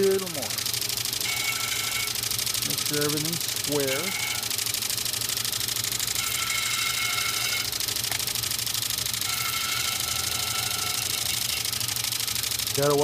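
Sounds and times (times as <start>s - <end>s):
electric sanding disc humming: 0.0s - 13.0s
high grinding whine: 0.0s - 13.0s.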